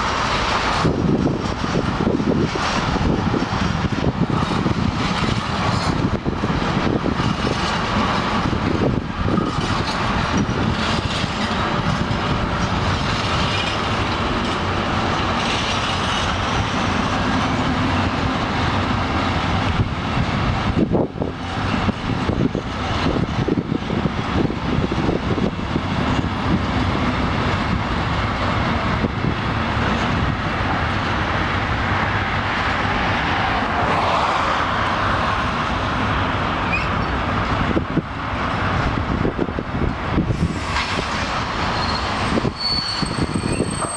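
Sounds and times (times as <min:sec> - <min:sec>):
freight train wheels on rails: 0:00.0 - 0:43.9.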